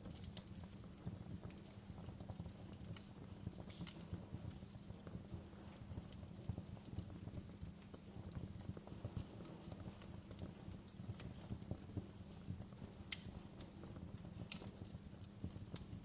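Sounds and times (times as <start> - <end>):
sharp pops and snaps: 0.0 - 16.0
wood fire crackling: 0.0 - 16.0.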